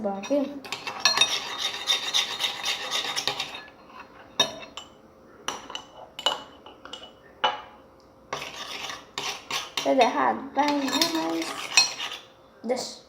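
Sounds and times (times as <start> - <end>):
spoon stirring in a bowl: 0.2 - 12.4.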